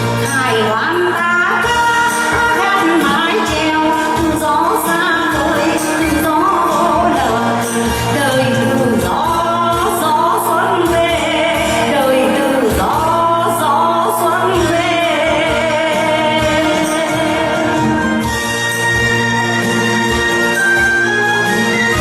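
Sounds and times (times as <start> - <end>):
instrumental backing music: 0.0 - 22.0.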